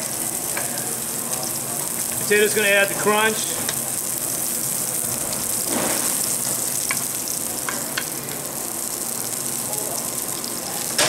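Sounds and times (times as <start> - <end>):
fish searing in a hot pan: 0.0 - 11.0.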